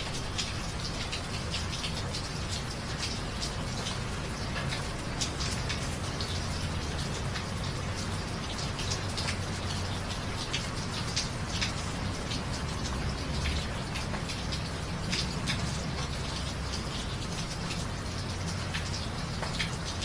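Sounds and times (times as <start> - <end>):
rain drops pattering on hard surface: 0.0 - 20.0.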